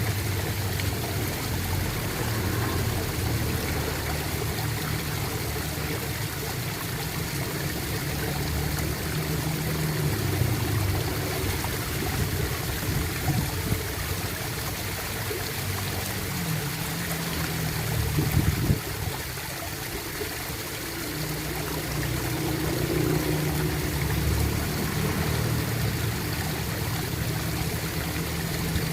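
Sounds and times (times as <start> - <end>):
water gurgling and trickling: 0.0 - 28.9.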